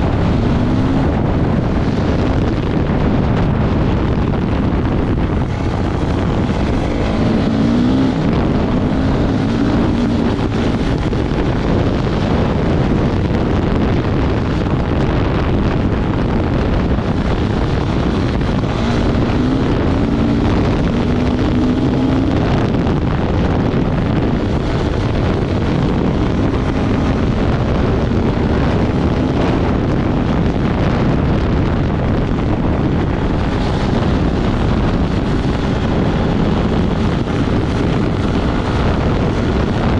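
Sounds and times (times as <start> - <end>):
off-road vehicle engine: 0.0 - 39.9
wind buffeting microphone: 0.0 - 39.9.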